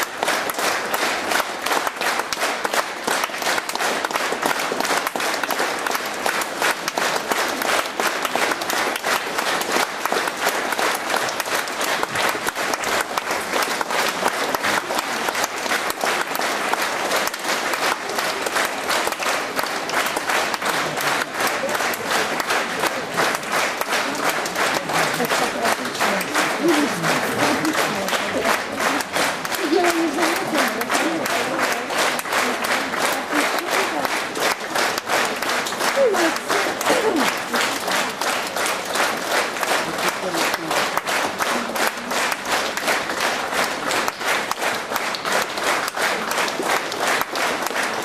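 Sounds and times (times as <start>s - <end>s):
audience applauding: 0.0s - 48.0s.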